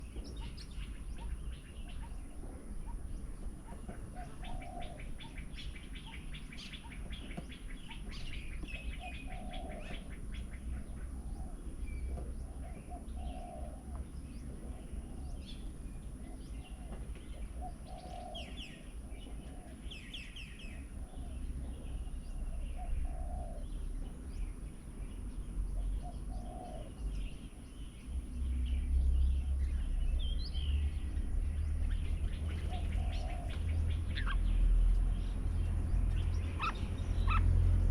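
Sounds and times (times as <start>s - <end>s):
birds chirping and trilling: 0.0s - 37.9s.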